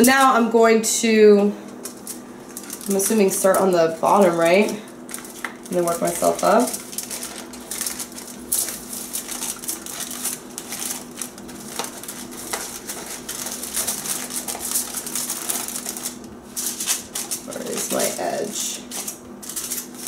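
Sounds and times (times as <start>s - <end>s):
aluminium foil crinkling: 0.0s - 0.6s, 1.7s - 20.0s.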